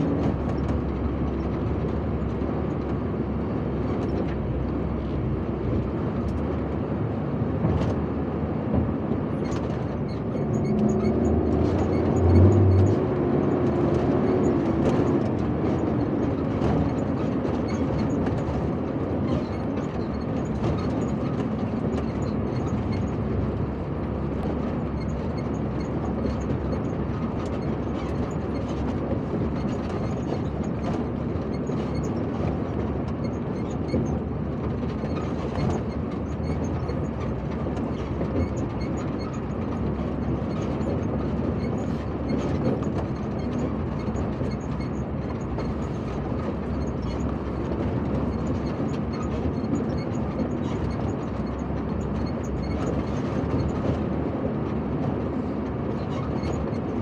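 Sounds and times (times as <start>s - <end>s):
heavy vehicles on dirt road: 0.0s - 57.0s.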